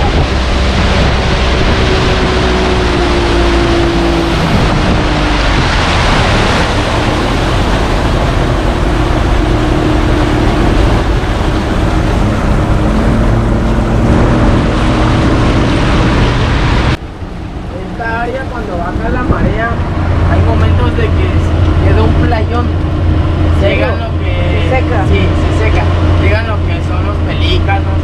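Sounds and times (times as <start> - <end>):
motorboat engine droning: 0.0 - 28.0
rushing water: 0.0 - 28.0
wind noise: 0.0 - 28.0.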